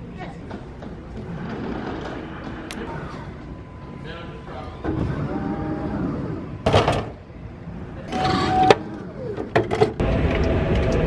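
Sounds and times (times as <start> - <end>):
vending machine mechanical noise: 0.6 - 11.0.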